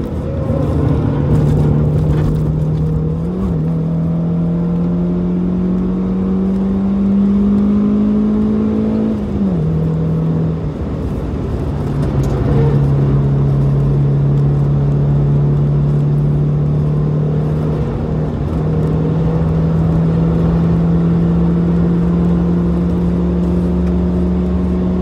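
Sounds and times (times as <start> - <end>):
car engine pulling hard: 0.0 - 25.0.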